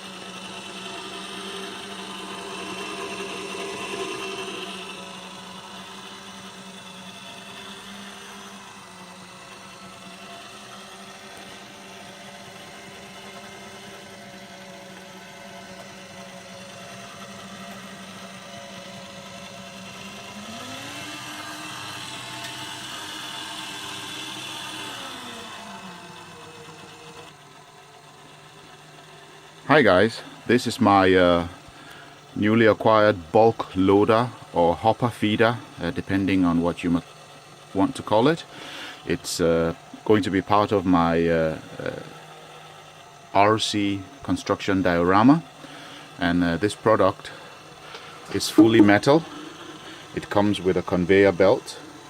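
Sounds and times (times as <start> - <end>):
small electric motor whirring: 0.0 - 52.0.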